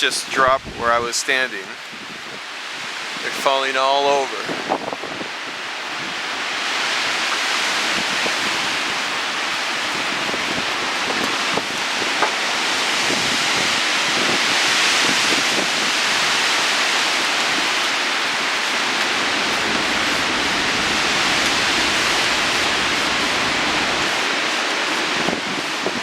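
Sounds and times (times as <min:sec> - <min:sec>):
strong wind through trees: 0:00.0 - 0:26.0.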